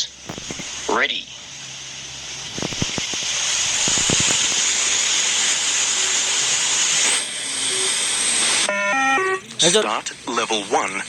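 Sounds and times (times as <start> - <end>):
loud hiss of noise: 0.0 - 11.0.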